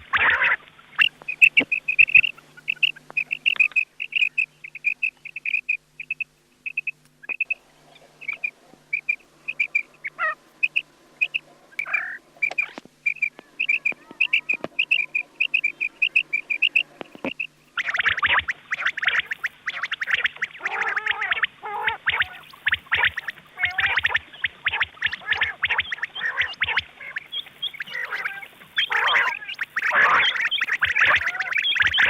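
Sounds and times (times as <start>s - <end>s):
faint low hum: 0.0s - 32.0s
quail chirps: 0.0s - 32.0s.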